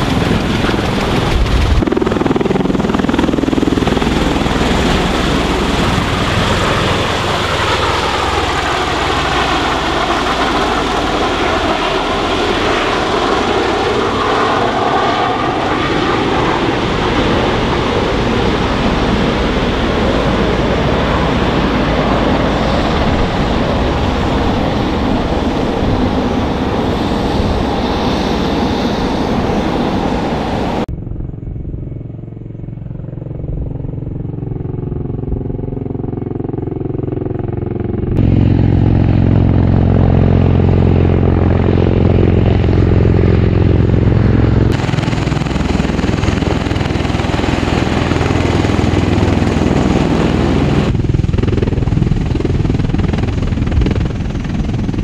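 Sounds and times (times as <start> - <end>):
aircraft flying overhead: 0.0 - 55.0
engine whine sweeping: 0.0 - 55.0.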